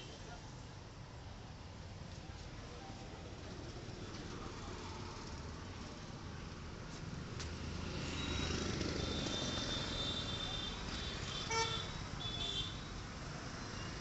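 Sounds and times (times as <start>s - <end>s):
vehicle engines passing: 0.2s - 14.0s.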